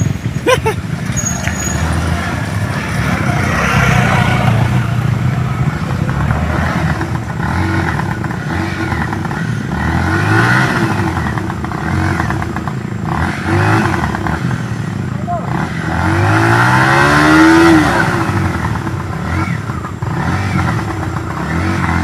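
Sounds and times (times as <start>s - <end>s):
small motorcycle engine revving: 0.3s - 22.0s.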